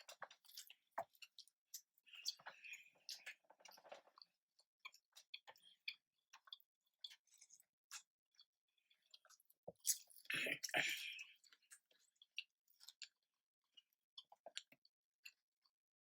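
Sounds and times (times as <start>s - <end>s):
chewing crunchy food: 0.0s - 15.8s.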